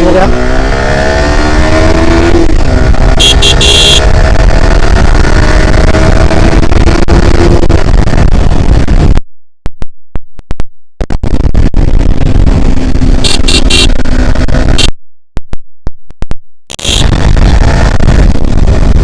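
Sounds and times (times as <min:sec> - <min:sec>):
motorcycle engine accelerating: 0:00.0 - 0:09.2, 0:11.2 - 0:14.9, 0:16.7 - 0:19.0
wind rumble on microphone: 0:00.0 - 0:09.8, 0:10.4 - 0:14.9, 0:16.7 - 0:19.0.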